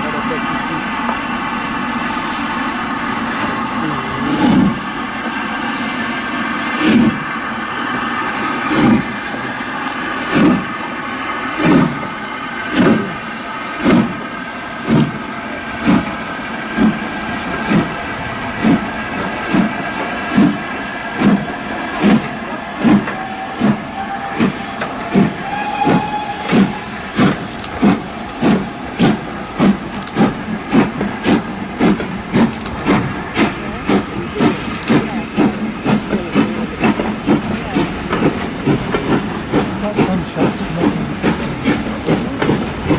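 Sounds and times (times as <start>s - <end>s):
steam locomotive exhaust chuffs: 0.0s - 42.9s
hiss of steam: 0.4s - 42.9s.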